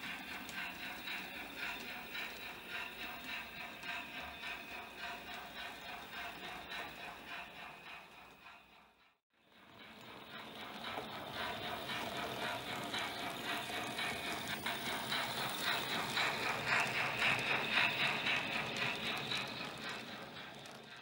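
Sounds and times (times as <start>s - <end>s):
model train wheels clattering: 0.0s - 21.0s.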